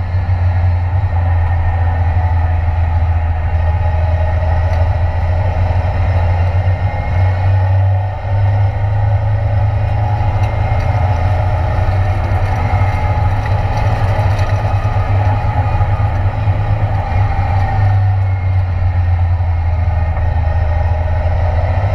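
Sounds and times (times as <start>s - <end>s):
race car engine at low revs: 0.0s - 21.9s.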